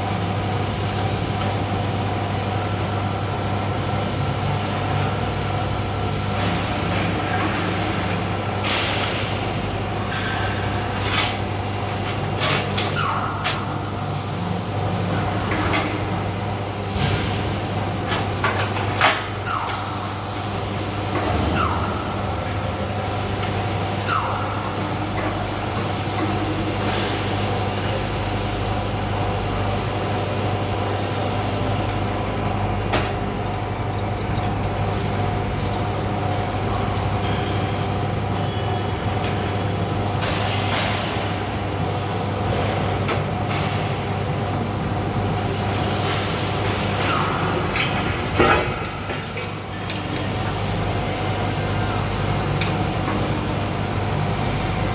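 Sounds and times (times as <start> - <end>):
industrial machinery drone: 0.0 - 54.9.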